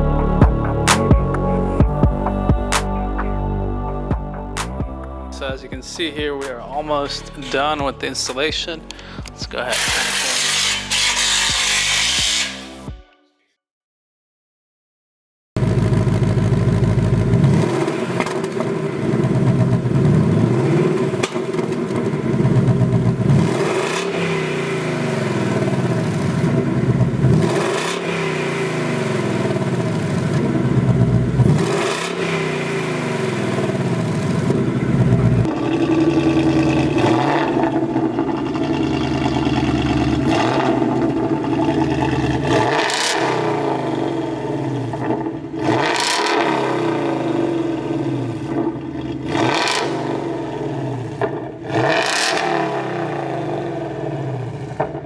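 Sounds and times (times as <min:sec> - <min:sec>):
car engine revving: 0:05.4 - 0:12.8, 0:15.6 - 0:55.0.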